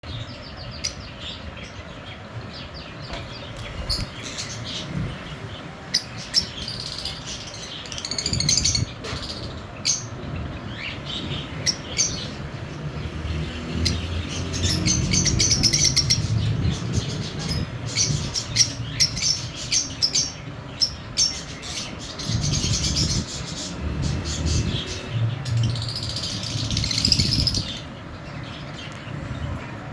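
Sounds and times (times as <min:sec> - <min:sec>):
birds chirping: 0:00.0 - 0:29.9.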